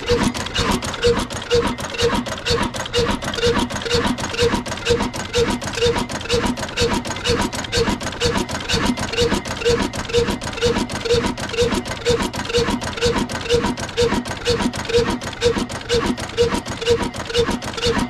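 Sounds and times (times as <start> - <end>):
diesel engine running slowly: 0.0 - 18.0.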